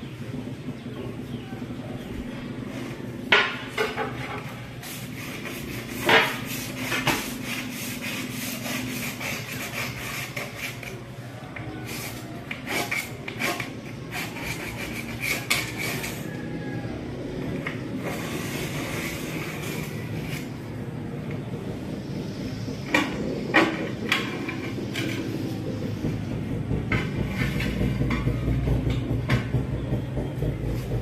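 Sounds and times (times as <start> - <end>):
tool scraping on tiles: 2.7 - 16.8, 17.5 - 20.9, 22.8 - 26.2, 26.8 - 31.0.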